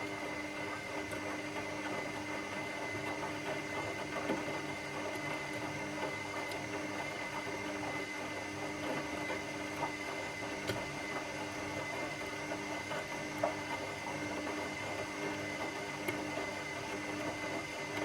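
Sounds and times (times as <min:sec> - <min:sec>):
washing machine running: 0:00.0 - 0:18.0.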